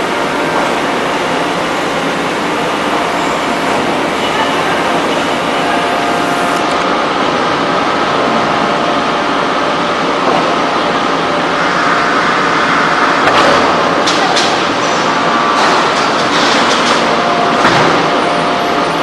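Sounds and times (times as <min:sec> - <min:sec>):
forging press machinery running: 0:00.0 - 0:19.0.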